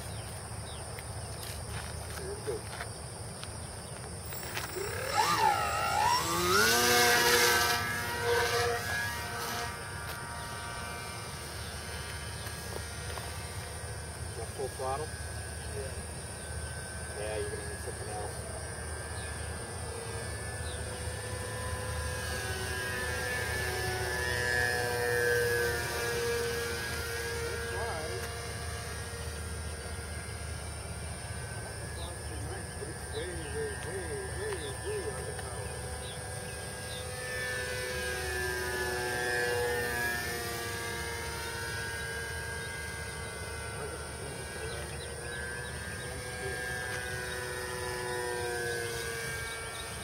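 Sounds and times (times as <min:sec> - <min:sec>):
electric motor and propeller whine: 0:00.0 - 0:50.0.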